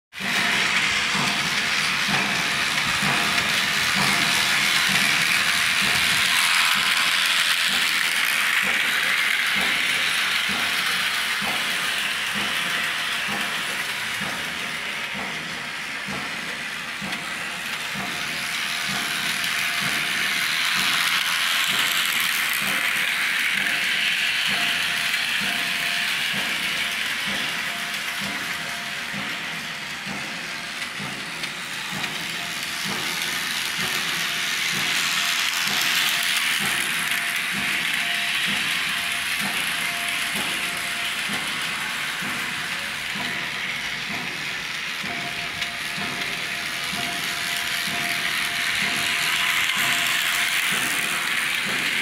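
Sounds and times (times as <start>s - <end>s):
model train motor whirring: 0.2s - 52.0s
wheels clicking over rail joints: 0.2s - 52.0s.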